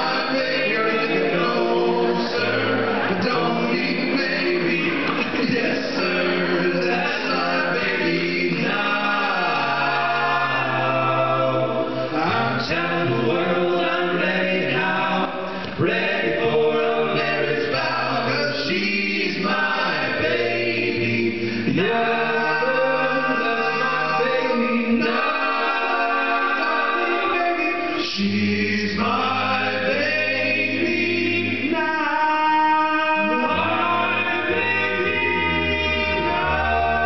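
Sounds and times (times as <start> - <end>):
male a cappella group singing: 0.0 - 37.0.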